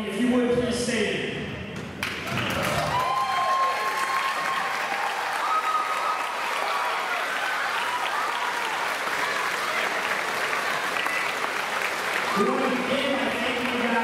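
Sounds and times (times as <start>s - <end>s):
crowd applauding: 2.0s - 14.0s
voices cheering: 2.2s - 14.0s.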